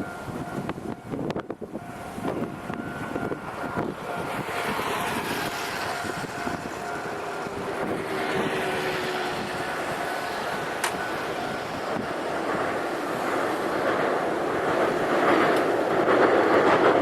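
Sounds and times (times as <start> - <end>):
crossing two-tone warning alarm: 0.0 - 16.8
low train whine: 0.0 - 17.0
train wheel and running noise: 0.0 - 17.0.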